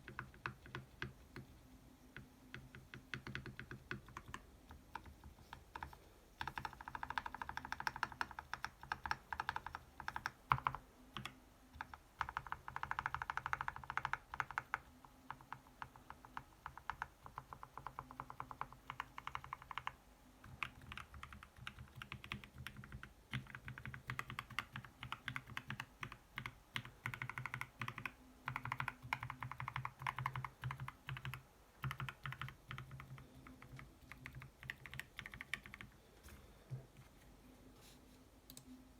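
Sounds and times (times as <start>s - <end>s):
mechanical keyboard typing: 0.0s - 1.6s, 2.2s - 36.0s.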